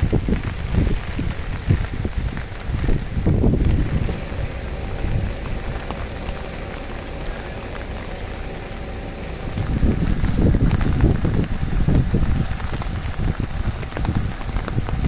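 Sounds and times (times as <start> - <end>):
rain on wet paving: 0.0 - 15.0
wind buffeting microphone: 0.0 - 15.0.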